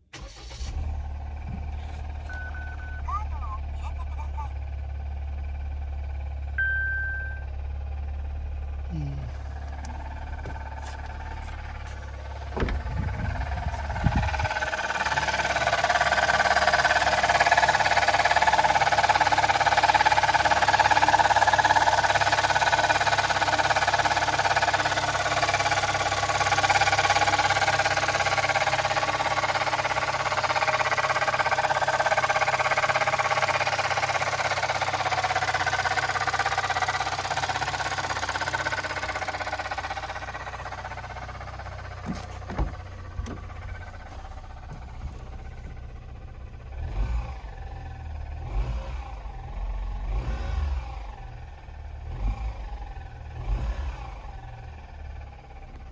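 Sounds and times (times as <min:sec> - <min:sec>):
car engine with abnormal noise: 0:00.0 - 0:55.9.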